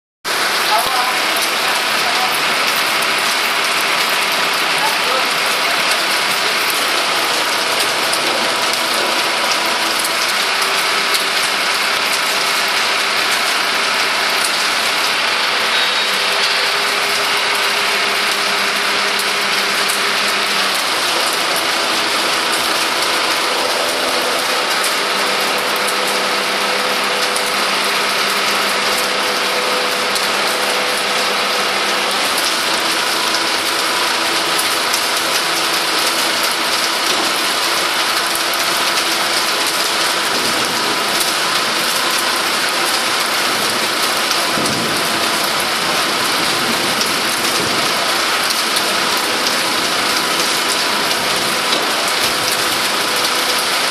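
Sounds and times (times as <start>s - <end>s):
lorry winch whirring and humming: 0.3s - 53.9s
rain hissing: 0.3s - 53.9s.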